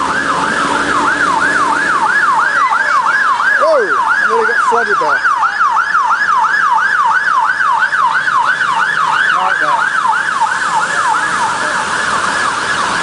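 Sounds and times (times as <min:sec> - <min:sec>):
police siren fast yelp: 0:00.0 - 0:13.0.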